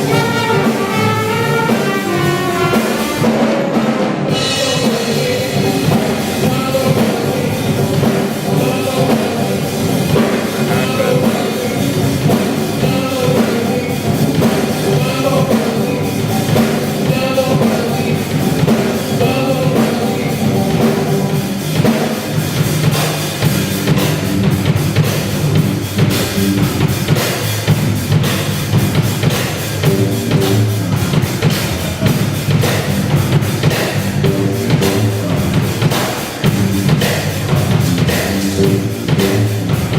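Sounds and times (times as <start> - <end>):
drum kit beat: 0.0 - 39.9
live band playing: 0.0 - 39.9.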